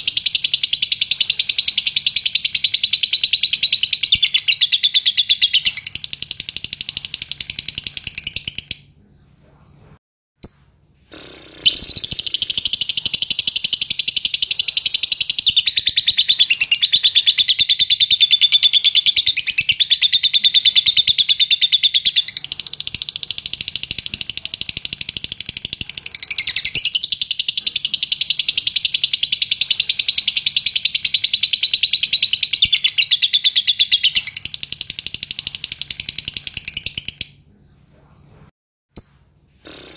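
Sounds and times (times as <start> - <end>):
lovebird chirping: 0.0 - 8.9, 10.4 - 10.8, 11.7 - 37.4, 39.0 - 39.4.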